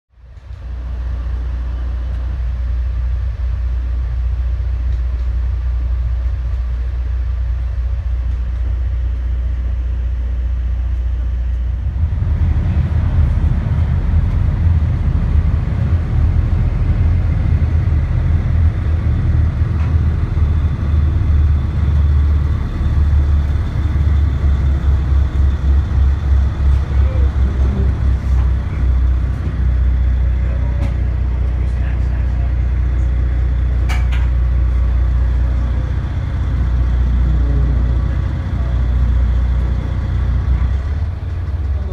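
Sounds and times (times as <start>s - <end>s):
boat engines droning: 0.2s - 41.9s.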